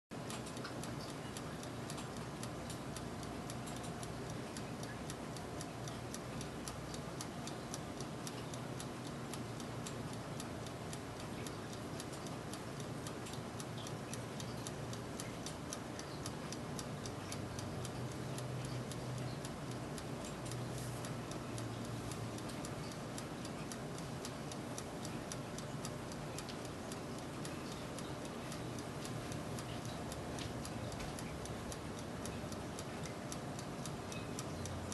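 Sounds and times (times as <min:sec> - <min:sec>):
oven fan hum: 0:00.2 - 0:34.9
rapid even ticking: 0:00.2 - 0:34.9.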